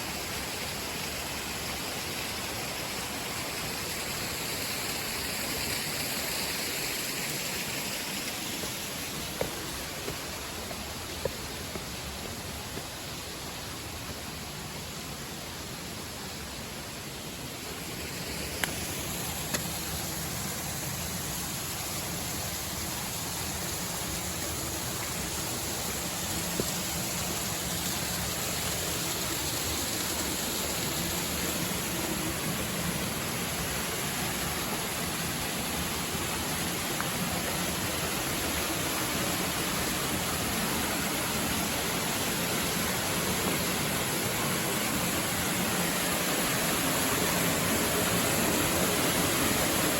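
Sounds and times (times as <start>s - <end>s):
stream and waterfall rushing: 0.0s - 49.9s.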